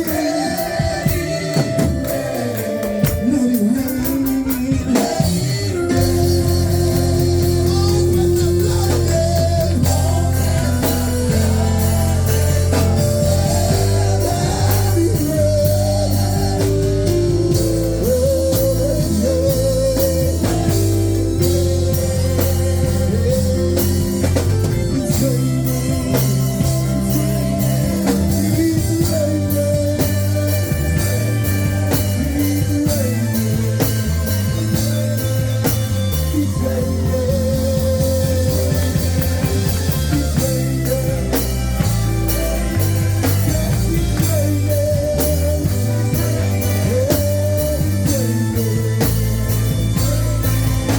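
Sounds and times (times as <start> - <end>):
band playing worship music: 0.0 - 50.9
person singing: 0.0 - 50.9.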